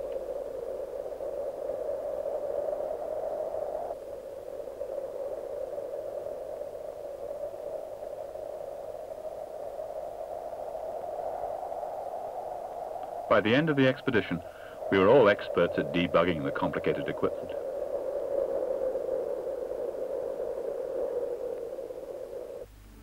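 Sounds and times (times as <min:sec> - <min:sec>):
steady static hiss: 0:00.0 - 0:23.0.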